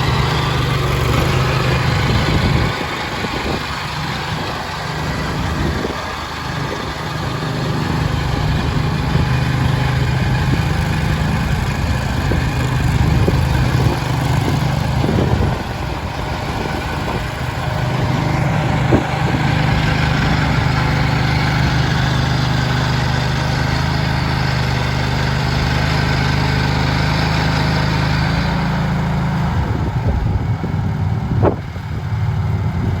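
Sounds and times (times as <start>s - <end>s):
skid steer engine running: 0.0s - 33.0s.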